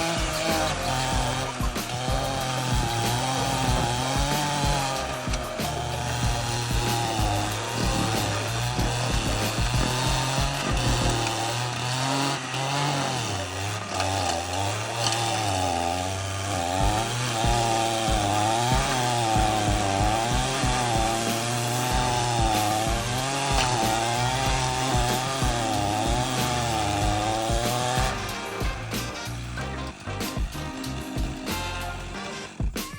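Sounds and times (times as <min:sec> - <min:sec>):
chainsaw stump grinding: 0:00.0 - 0:32.9.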